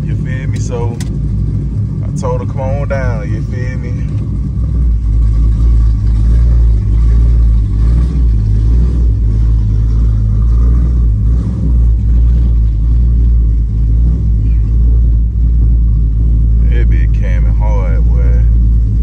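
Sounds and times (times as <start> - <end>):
car engine deep choppy rumble: 0.0 - 19.0.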